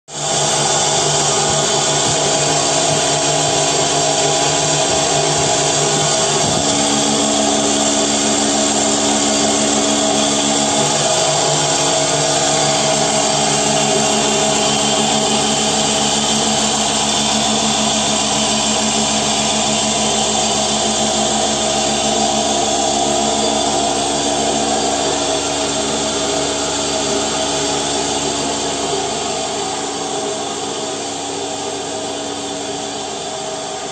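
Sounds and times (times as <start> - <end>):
vacuum pump drone: 0.1 - 33.9.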